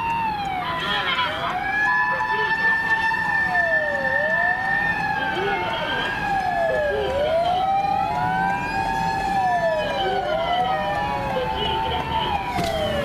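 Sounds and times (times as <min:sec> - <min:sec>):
ambulance siren wailing: 0:00.0 - 0:13.0
steady siren tones: 0:00.0 - 0:13.0.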